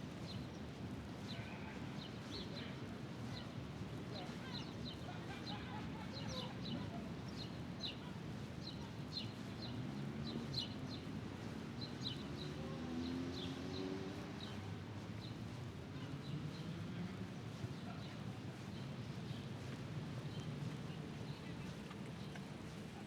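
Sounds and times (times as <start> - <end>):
low background murmur: 0.6 - 23.0.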